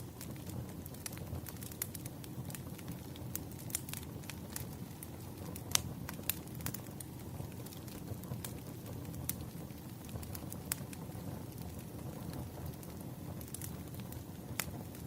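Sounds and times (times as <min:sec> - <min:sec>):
campfire crackling and popping: 0:00.0 - 0:15.0
low rumble of burning wood: 0:00.0 - 0:15.0.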